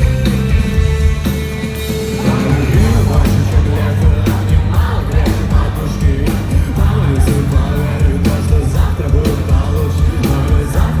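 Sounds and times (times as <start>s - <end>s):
heavy bass: 0.0s - 11.0s
steady drum beat: 0.0s - 11.0s
person singing lead vocal: 1.9s - 11.0s.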